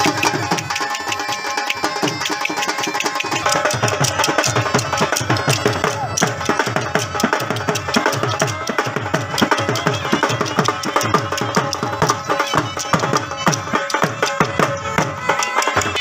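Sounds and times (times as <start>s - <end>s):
fast dhol drumming: 0.0s - 16.0s
wind instrument melody: 0.0s - 16.0s.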